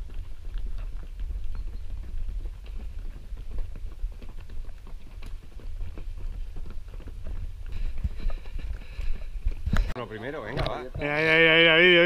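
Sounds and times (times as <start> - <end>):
running footsteps on stone: 0.0 - 12.0.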